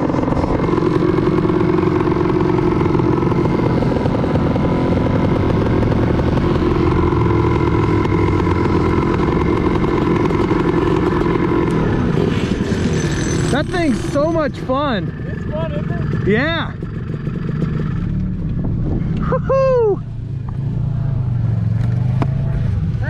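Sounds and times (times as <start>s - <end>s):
two-stroke engine running: 0.0s - 19.4s.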